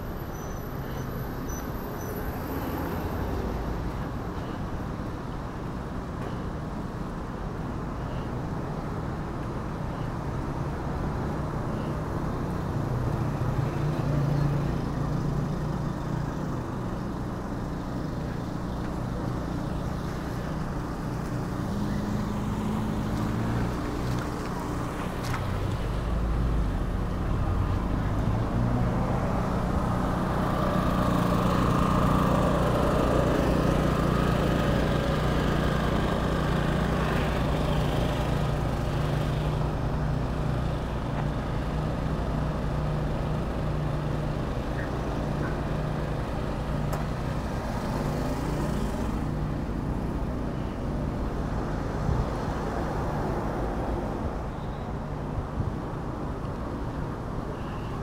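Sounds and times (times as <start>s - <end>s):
car engines passing: 0.0s - 58.0s.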